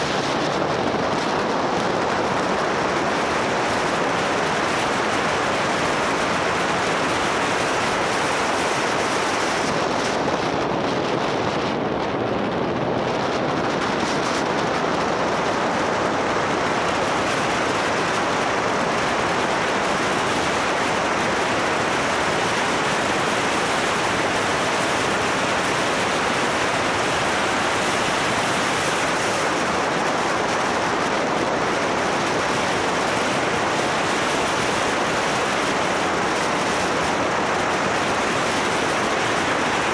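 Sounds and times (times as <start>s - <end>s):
wind rushing across microphone: 0.0s - 39.9s.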